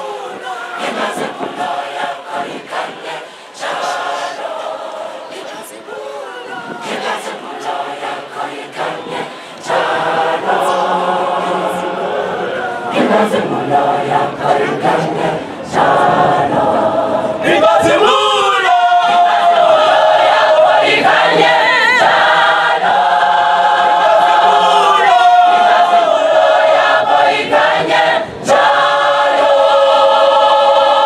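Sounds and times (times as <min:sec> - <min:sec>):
choir singing in harmony: 0:00.0 - 0:31.0.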